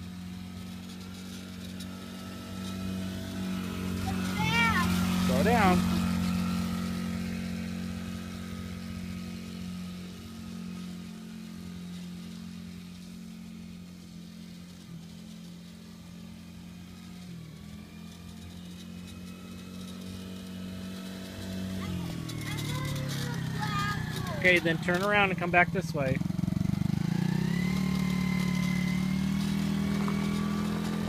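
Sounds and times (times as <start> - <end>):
small quad engine running: 0.0 - 31.0.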